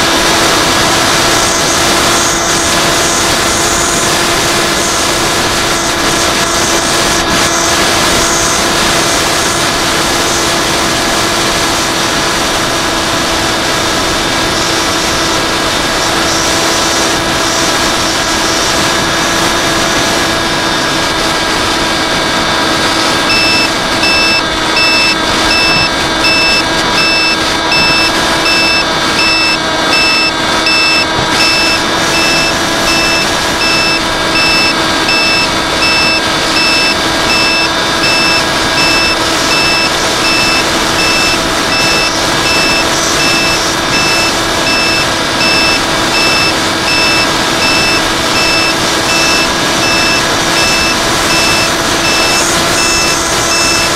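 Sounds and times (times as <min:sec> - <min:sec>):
drone propellers humming: 0:00.0 - 0:53.9
rapid electronic beeping: 0:00.0 - 0:53.9.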